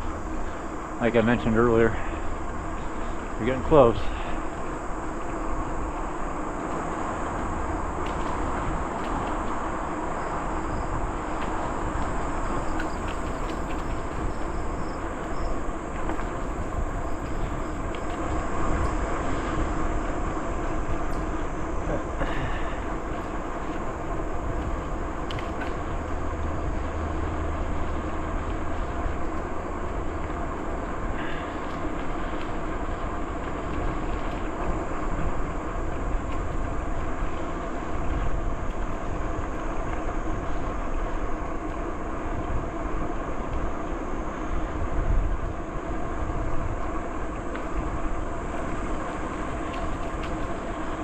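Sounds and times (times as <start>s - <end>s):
bicycle tyres rolling on trail: 0.0s - 51.0s
constant hum: 0.0s - 51.0s
wind on microphone: 0.0s - 51.0s.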